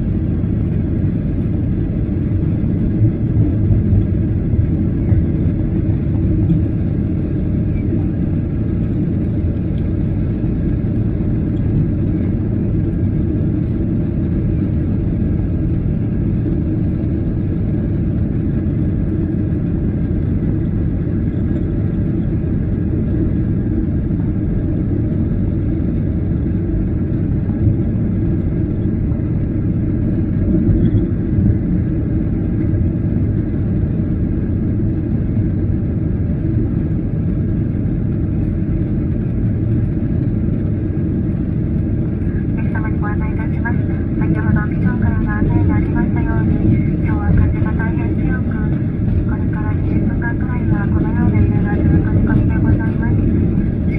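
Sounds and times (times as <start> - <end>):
airliner cabin rumble: 0.0 - 53.9.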